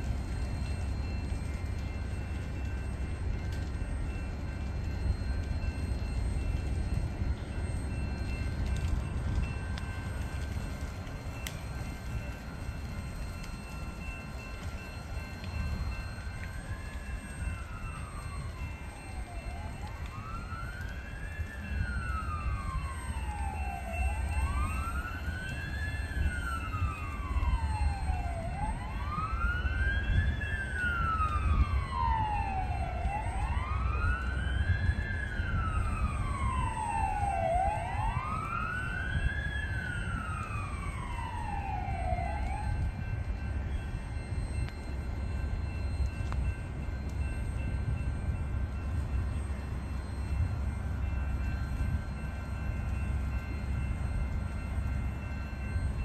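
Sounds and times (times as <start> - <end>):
fire engine siren wailing: 0.0 - 56.0.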